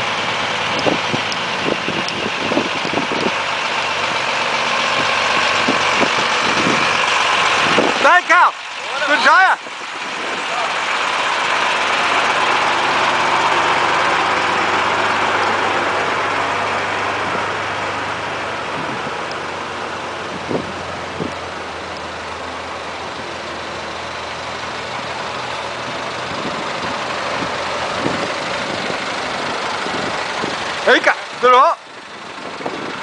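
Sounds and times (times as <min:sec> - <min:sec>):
road noise: 0:00.0 - 0:33.0
truck engines idling: 0:00.0 - 0:33.0.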